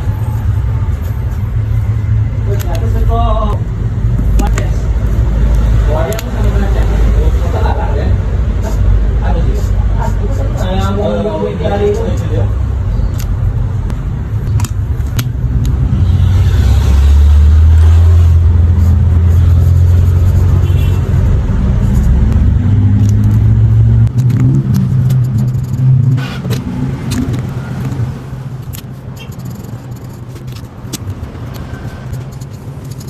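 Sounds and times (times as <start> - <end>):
low engine rumble: 0.0 - 33.0.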